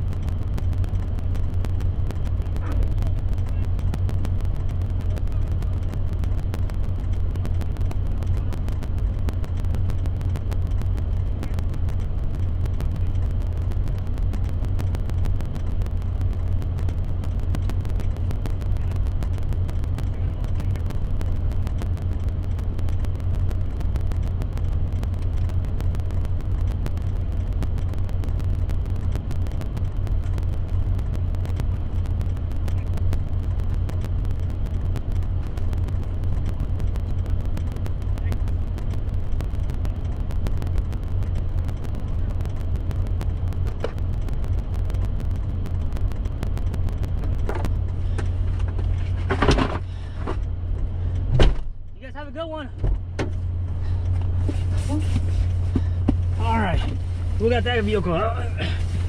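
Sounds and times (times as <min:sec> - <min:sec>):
vehicle engine running: 0:00.0 - 0:51.3.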